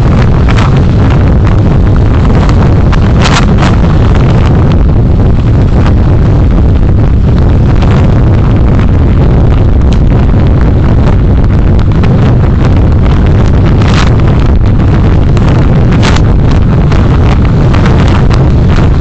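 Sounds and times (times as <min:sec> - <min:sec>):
road and engine noise: 0:00.0 - 0:19.0
wind buffeting the microphone: 0:00.0 - 0:19.0.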